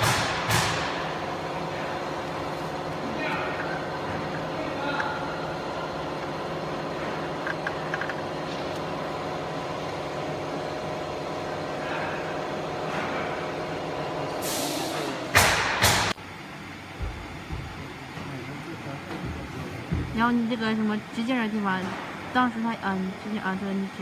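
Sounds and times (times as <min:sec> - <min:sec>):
machine hum with tones: 0:00.0 - 0:24.0.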